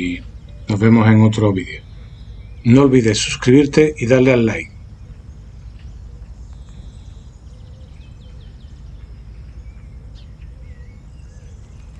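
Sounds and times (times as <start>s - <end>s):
small birds chirping: 0.0s - 11.9s
steady low rumble: 0.0s - 11.9s.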